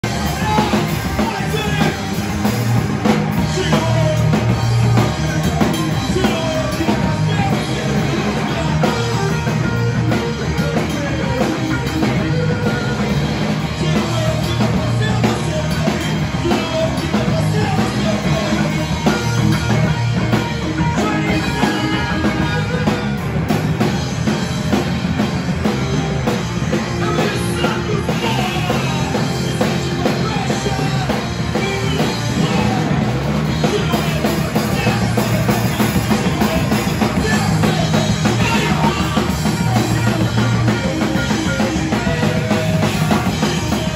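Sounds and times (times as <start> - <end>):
distorted electric guitar: 0.0 - 43.9
drum kit with crashing cymbals: 0.0 - 43.9
electric bass: 0.0 - 43.9.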